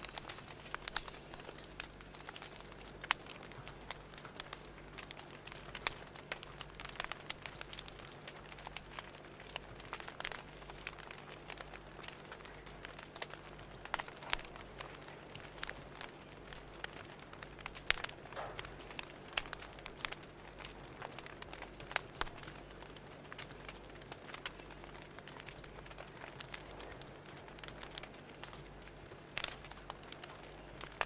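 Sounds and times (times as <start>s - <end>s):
wood fire pops and snaps: 0.0s - 31.0s.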